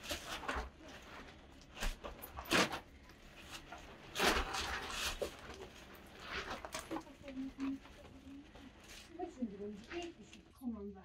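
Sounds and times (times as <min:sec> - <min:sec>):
clothing rustling: 0:00.0 - 0:10.6.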